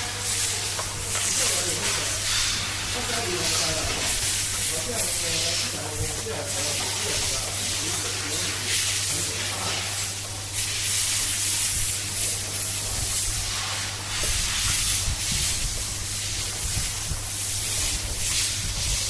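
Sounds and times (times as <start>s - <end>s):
pulsing hiss: 0.0s - 19.0s.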